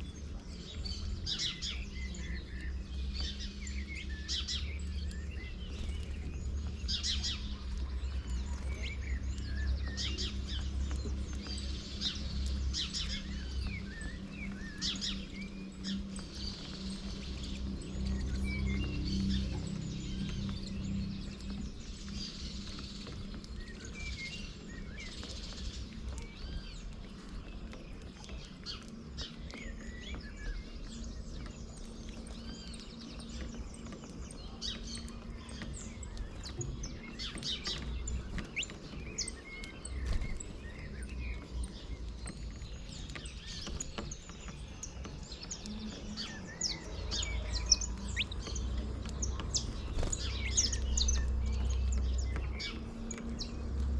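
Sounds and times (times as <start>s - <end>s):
small birds chirping: 0.0s - 53.9s
steady low rumble: 0.0s - 53.9s.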